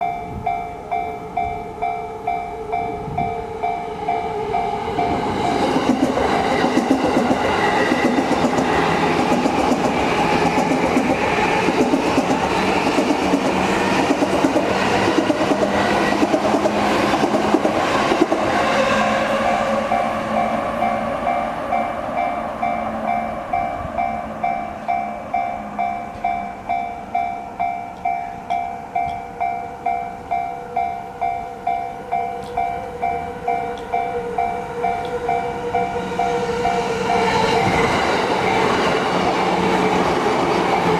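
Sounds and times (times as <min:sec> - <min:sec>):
electric train passing: 0:00.0 - 0:40.9.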